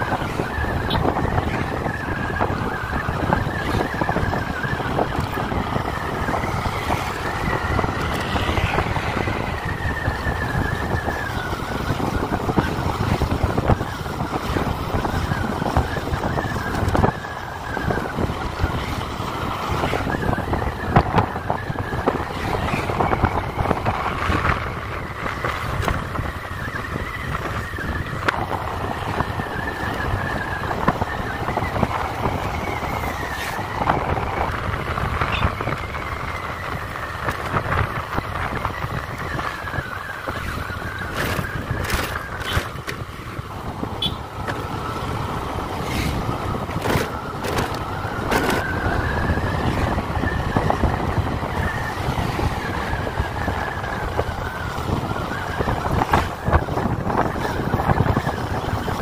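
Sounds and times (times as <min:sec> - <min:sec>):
vehicle engine and road noise: 0:00.0 - 0:59.0
wind on microphone: 0:00.0 - 0:59.0.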